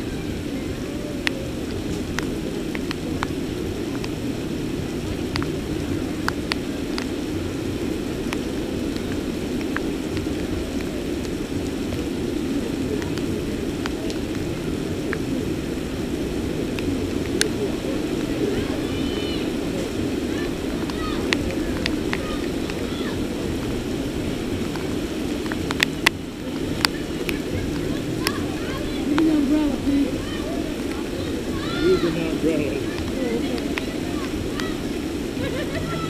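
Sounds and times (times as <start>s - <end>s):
heavy rain falling: 0.0s - 36.0s
raindrops ticking on microphone: 0.0s - 36.0s.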